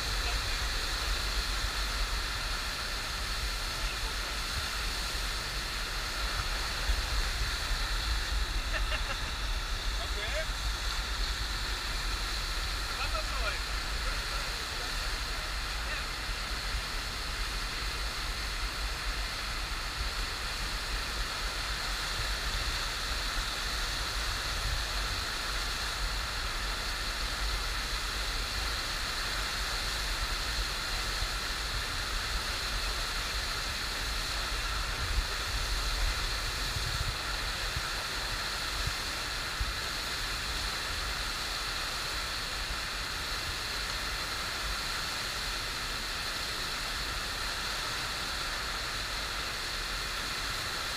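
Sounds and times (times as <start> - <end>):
rushing water over wave surface: 0.0 - 50.9.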